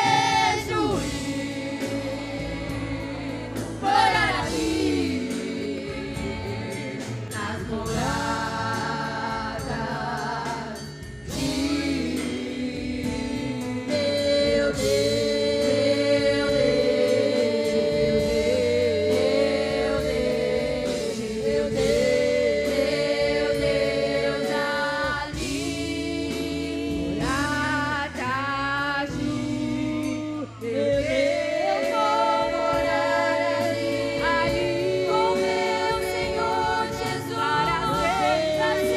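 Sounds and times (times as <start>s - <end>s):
musical accompaniment: 0.0s - 38.9s
women's gospel group singing: 0.0s - 38.9s.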